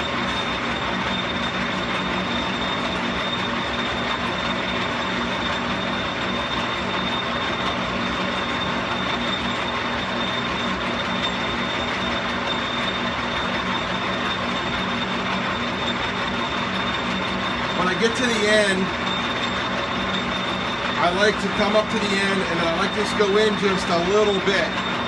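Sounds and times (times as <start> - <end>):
thin high whine: 0.0 - 25.0
metal lathe gears clattering: 0.1 - 25.0.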